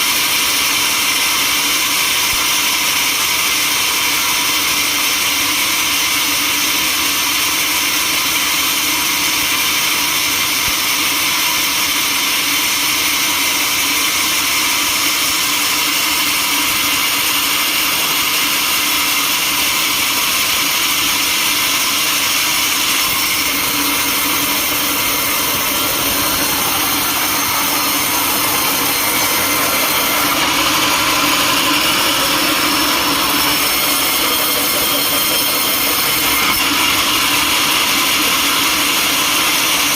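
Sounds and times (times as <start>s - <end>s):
sawmill machinery whine: 0.0s - 39.9s.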